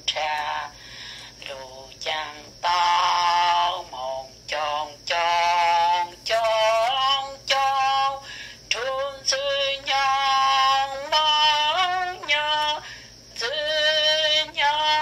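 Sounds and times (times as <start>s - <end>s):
person singing slow melody: 0.0s - 15.0s.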